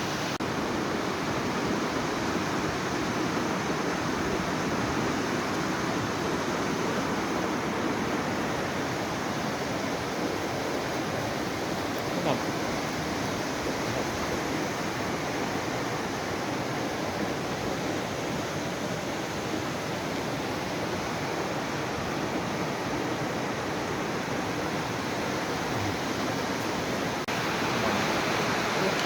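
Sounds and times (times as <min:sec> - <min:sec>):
stream water flowing over rocks: 0:00.0 - 0:29.0.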